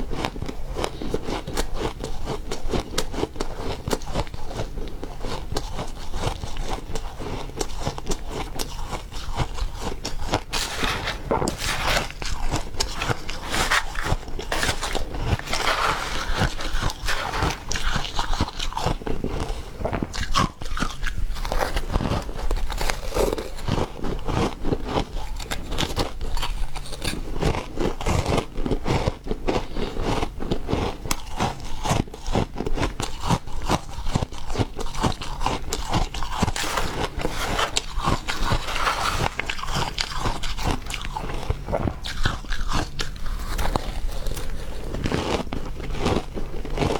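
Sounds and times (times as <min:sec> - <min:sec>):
ice being chewed and crunched: 0:00.0 - 0:46.9.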